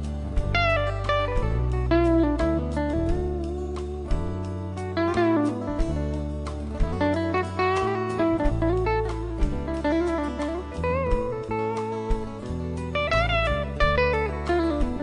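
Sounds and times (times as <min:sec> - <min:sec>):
bass notes: 0:00.0 - 0:15.0
drums: 0:00.0 - 0:15.0
electric guitar lead: 0:00.0 - 0:15.0.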